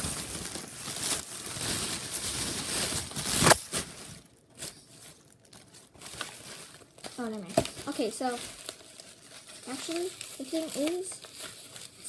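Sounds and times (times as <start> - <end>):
loud packaging crackle: 0.0 - 12.0
packaging crinkling and rustling: 0.0 - 12.0.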